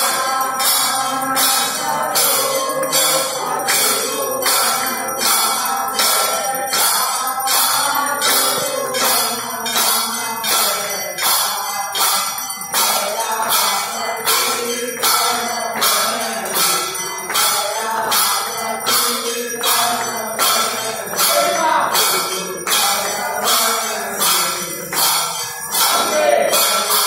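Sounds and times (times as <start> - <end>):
temple bells clanging: 0.0 - 27.0.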